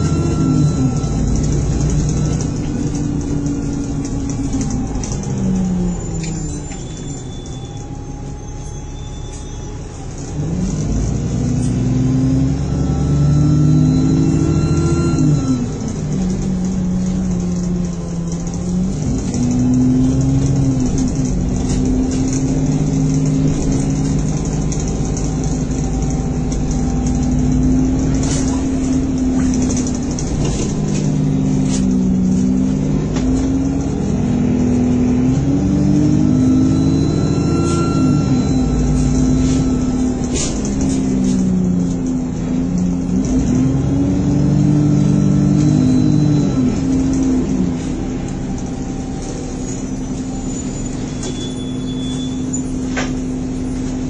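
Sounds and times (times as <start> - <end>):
bus engine changing gears: 0.0 - 54.0.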